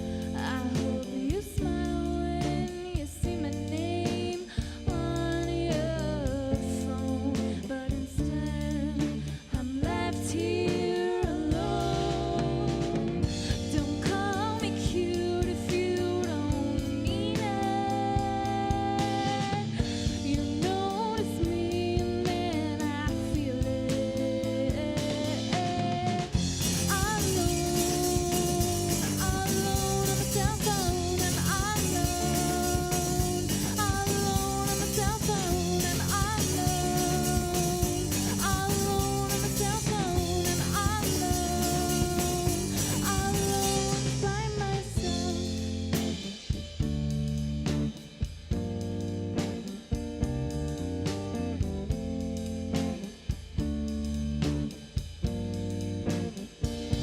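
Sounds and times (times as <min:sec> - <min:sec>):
person singing: 0:00.0 - 0:46.5
punk-pop band playing: 0:00.0 - 0:57.0.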